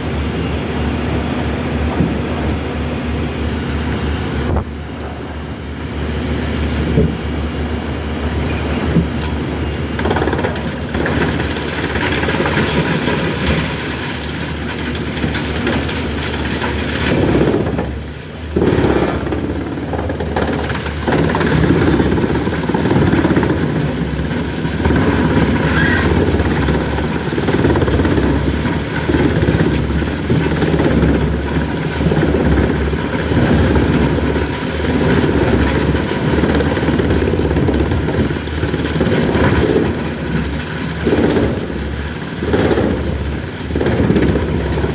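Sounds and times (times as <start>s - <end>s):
heavy engine running: 0.0s - 44.9s.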